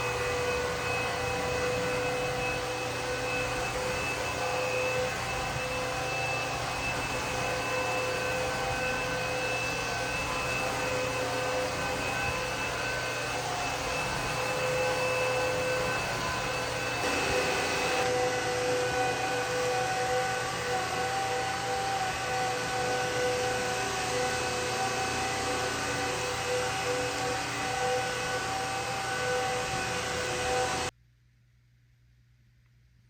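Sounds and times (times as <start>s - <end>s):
vacuum mop motor whine: 0.0s - 30.9s.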